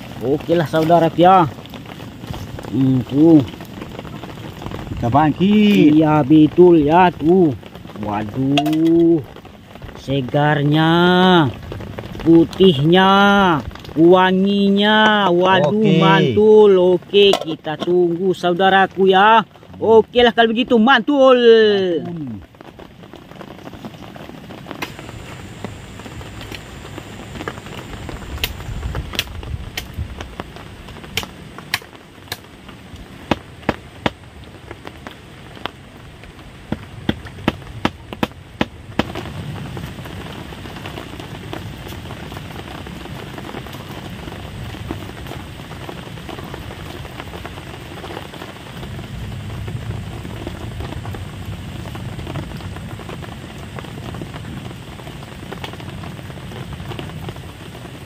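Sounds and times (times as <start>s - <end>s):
fire hiss: 0.0s - 58.0s
wood fire crackling and popping: 0.0s - 58.0s.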